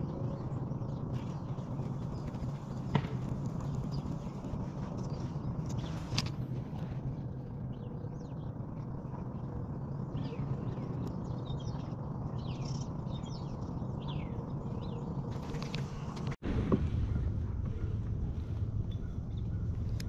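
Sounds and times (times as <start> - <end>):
small birds chirping: 0.0 - 16.4, 17.0 - 20.0
low background rumble: 0.0 - 20.0.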